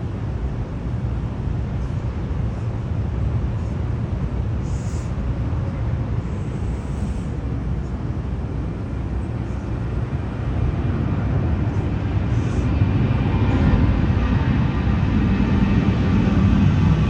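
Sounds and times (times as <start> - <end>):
faint engine whine: 0.0 - 17.0
jet engines rumbling: 0.0 - 17.0.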